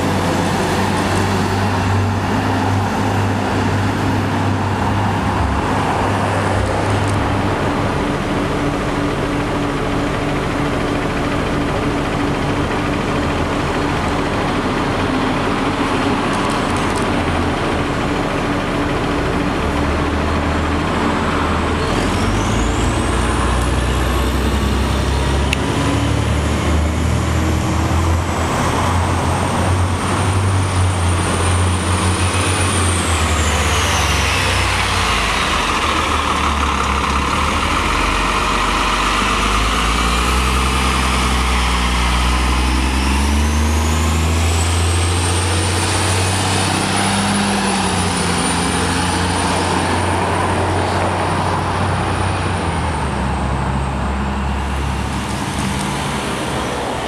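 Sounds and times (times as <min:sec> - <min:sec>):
bus engine under load: 0:00.0 - 0:57.0
high engine whine: 0:00.0 - 0:57.0.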